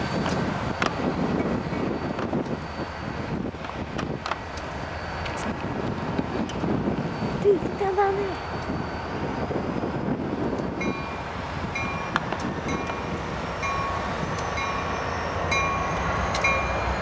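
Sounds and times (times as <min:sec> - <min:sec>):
diesel locomotives rumbling past: 0:00.0 - 0:17.0
railroad crossing bell dinging: 0:00.0 - 0:17.0.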